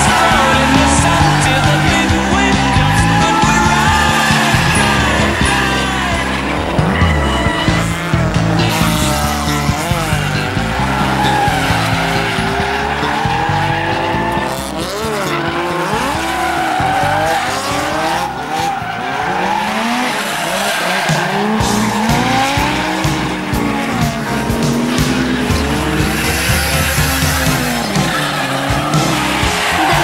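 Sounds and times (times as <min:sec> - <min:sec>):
car engines revving: 0:00.0 - 0:30.0
tyres squealing and skidding: 0:00.0 - 0:30.0.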